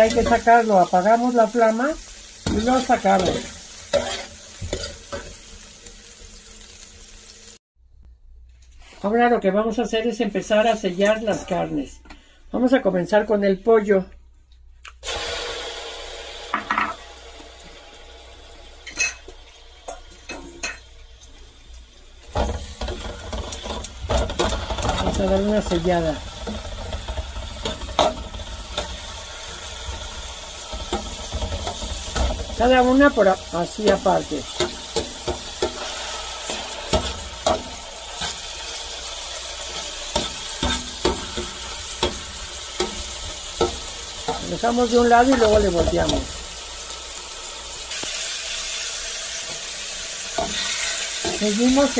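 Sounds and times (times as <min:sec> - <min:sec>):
chicken sizzling in hot oil: 0:00.0 - 0:07.6, 0:15.0 - 0:51.9.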